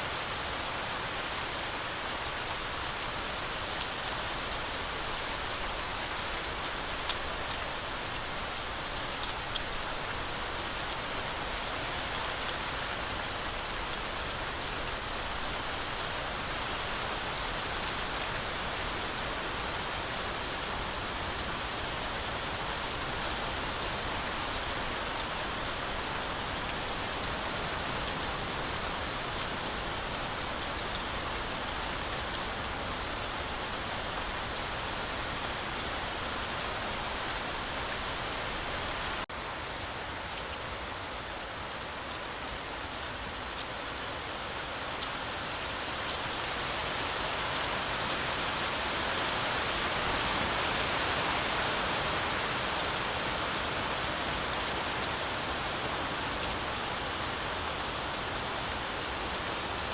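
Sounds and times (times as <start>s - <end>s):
heavy rain through trees: 0.0s - 59.9s.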